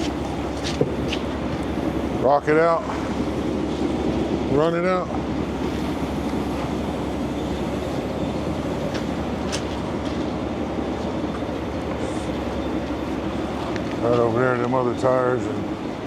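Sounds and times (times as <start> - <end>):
heavy machine engine running: 0.0 - 16.0.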